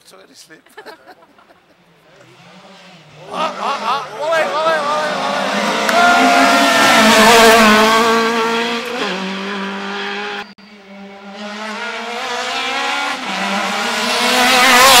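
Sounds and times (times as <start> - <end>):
rally car engine passing: 1.9 - 15.0
rally car revving: 1.9 - 15.0.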